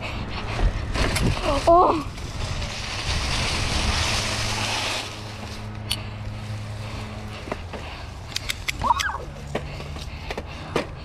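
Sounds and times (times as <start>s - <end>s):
bike tyres rolling over leaves: 0.0s - 10.3s.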